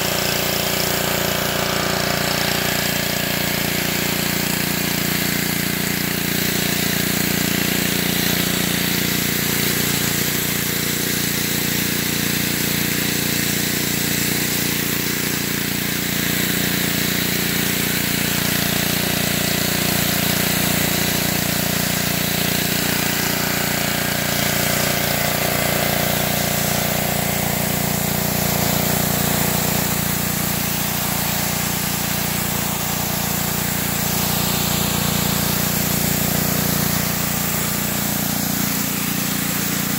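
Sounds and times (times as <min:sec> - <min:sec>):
high-pressure water spray hiss: 0:00.0 - 0:39.9
pressure washer engine running: 0:00.0 - 0:39.9.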